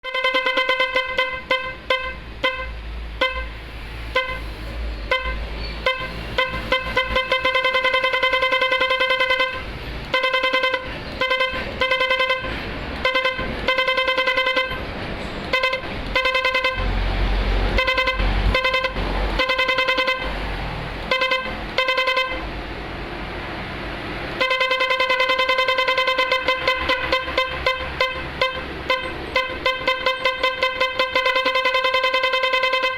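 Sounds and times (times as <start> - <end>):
electric horn beeping: 0.0 - 22.6, 24.3 - 32.9.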